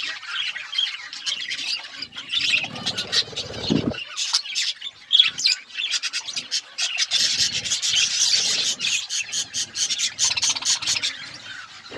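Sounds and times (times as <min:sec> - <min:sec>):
budgies chattering: 0:00.0 - 0:11.9.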